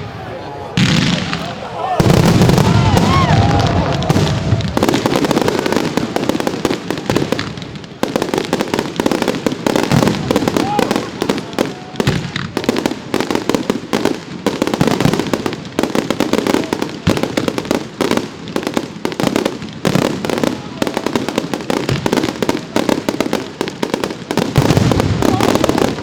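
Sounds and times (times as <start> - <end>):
fireworks bursts and crackling: 0.0 - 26.0.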